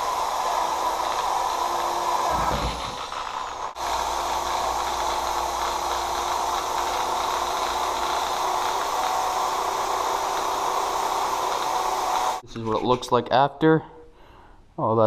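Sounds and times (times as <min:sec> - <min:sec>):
rotary tool grinding metal: 0:00.0 - 0:12.4.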